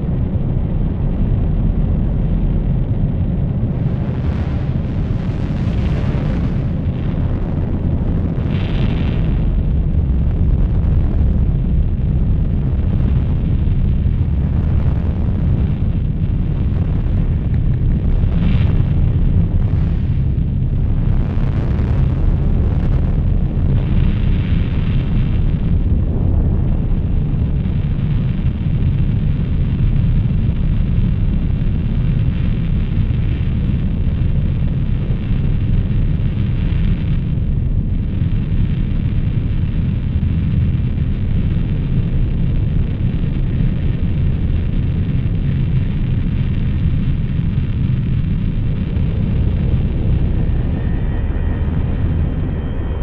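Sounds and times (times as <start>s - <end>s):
distorted noise drone music: 0.0s - 53.0s.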